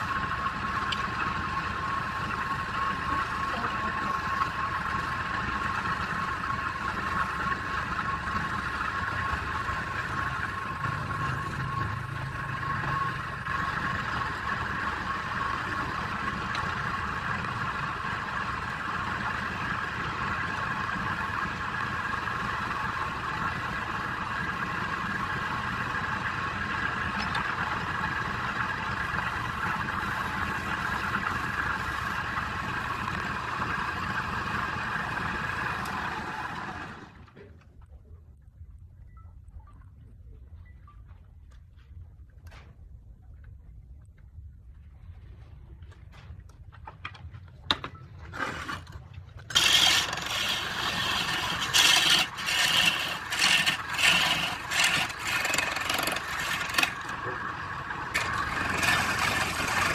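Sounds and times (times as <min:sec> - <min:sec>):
lathe whining: 0:00.0 - 0:37.3, 0:48.3 - 0:59.9.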